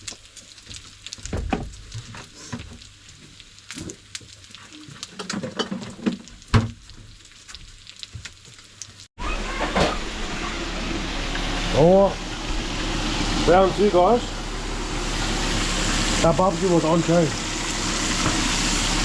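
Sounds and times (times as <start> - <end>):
faint grill sizzling: 0.0 - 9.1, 9.7 - 19.0.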